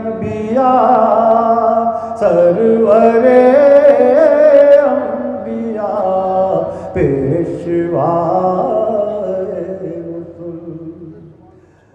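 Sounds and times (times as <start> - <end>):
man singing devotional poem: 0.0 - 11.6.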